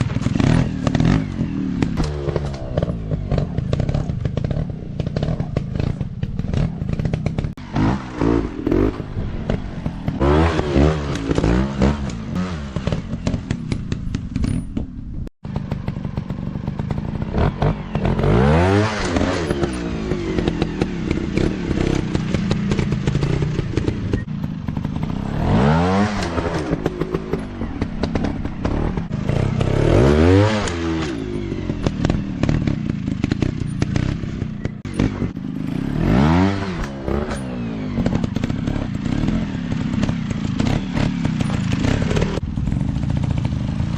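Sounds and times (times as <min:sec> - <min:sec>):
bikes clattering and scraping: 0:00.0 - 0:43.9
motorcycle engines revving: 0:00.0 - 0:43.9.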